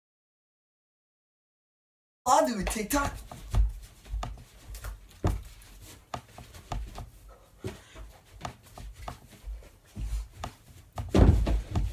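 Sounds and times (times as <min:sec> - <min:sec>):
dancing footsteps on floor: 0:02.3 - 0:11.9.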